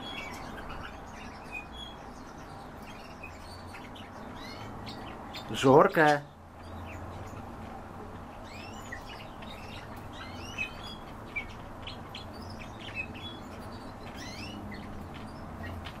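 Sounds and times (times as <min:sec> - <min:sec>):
swallow twittering: 0:00.0 - 0:16.0.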